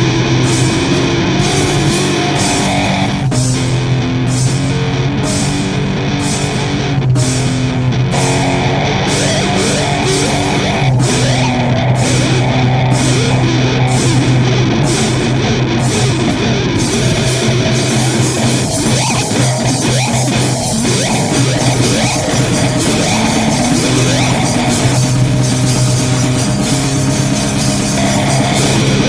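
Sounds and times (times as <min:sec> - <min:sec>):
heavy rock music: 0:00.0 - 0:29.0.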